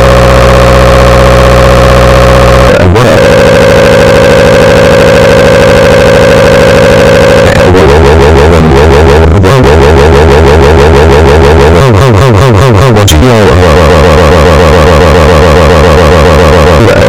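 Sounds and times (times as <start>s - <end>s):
man screaming distorted: 0.0s - 17.0s.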